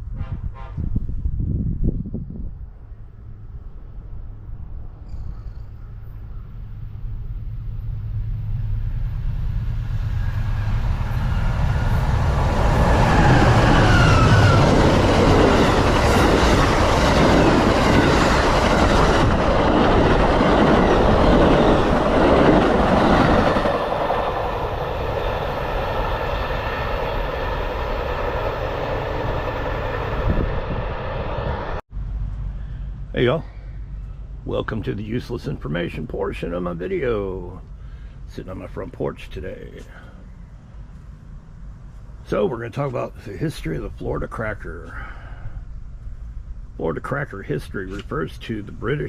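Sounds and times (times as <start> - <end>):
train rumble and rail noise: 0.0 - 49.0.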